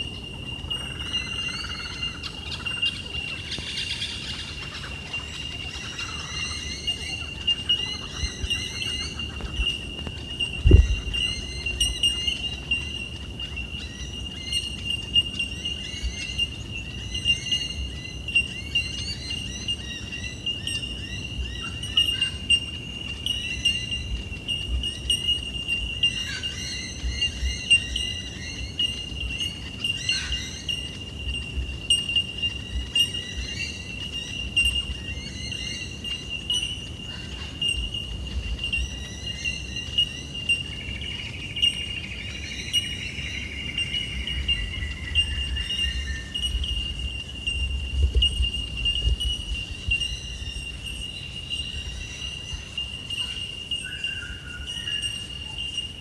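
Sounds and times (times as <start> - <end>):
high-pitched insect drone: 0.0 - 56.0
small birds chirping: 0.0 - 56.0.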